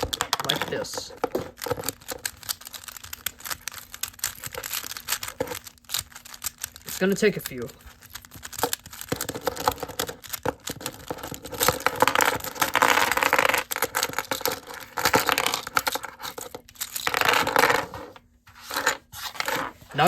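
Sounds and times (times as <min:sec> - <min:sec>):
plastic pieces clicking and scraping: 0:00.0 - 0:20.0.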